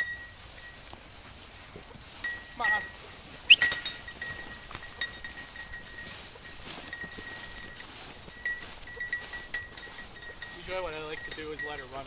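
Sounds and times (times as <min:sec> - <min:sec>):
dog bell collar jingling: 0:00.0 - 0:00.9, 0:02.2 - 0:12.0.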